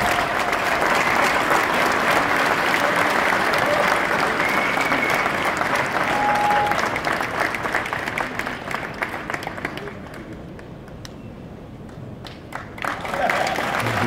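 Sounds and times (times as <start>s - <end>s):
audience applauding: 0.0s - 10.9s, 12.2s - 14.0s.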